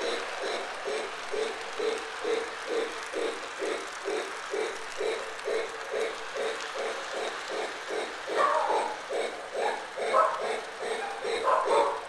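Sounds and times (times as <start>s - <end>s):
toy train running on track: 0.0s - 12.0s.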